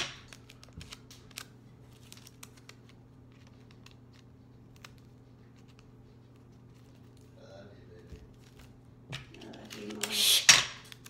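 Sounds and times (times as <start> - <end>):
low steady hum: 0.0 - 11.0
paper rustling: 0.2 - 10.1.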